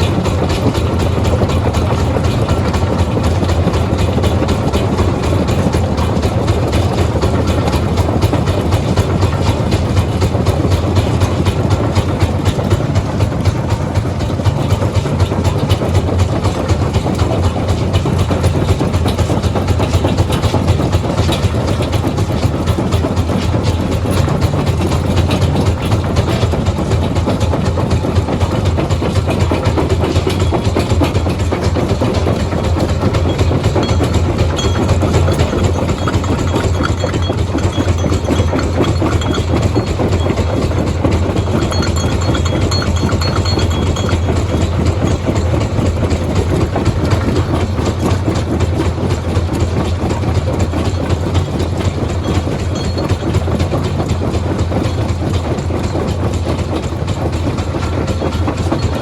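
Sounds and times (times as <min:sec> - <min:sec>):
rock-crushing machinery rattling: 0:00.0 - 0:59.0.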